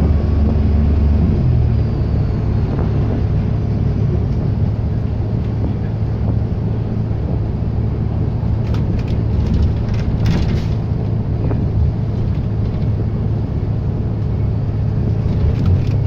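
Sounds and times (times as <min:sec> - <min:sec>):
diesel bus engine humming: 0:00.0 - 0:16.0.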